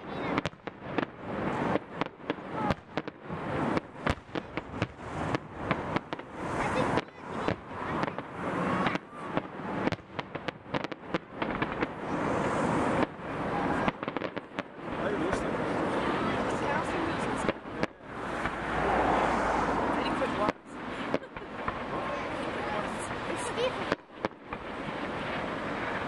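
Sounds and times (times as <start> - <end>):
dense crackling: 0.0 - 26.0
fireworks bangs: 0.0 - 26.0.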